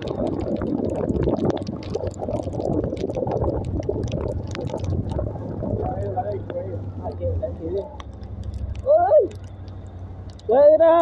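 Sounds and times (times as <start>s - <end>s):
rain and wind on microphone: 0.0s - 11.0s.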